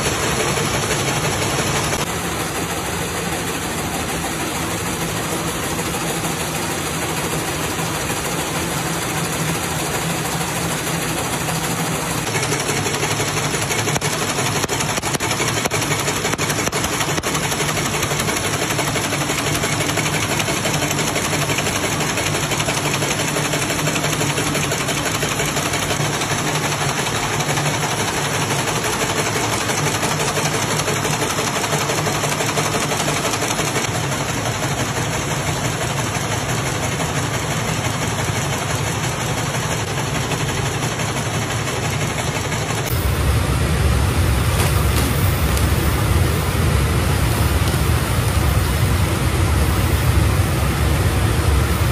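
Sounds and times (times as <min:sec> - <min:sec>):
nail-making machine running: 0:00.0 - 0:51.9.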